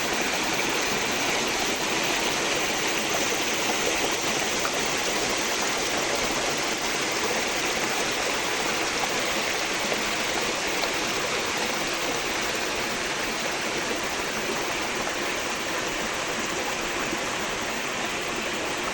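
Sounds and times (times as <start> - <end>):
stream flowing: 0.0 - 18.9.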